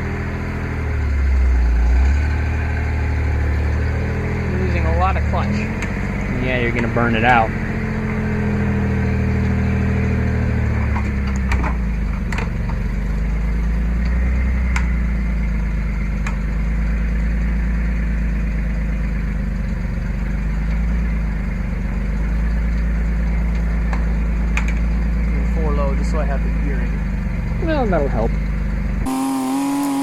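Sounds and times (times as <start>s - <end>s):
truck engine labouring: 0.0s - 30.0s.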